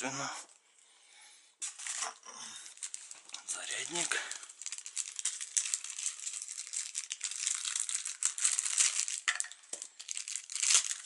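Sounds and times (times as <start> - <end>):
plastic bag crinkling: 1.6 - 11.0.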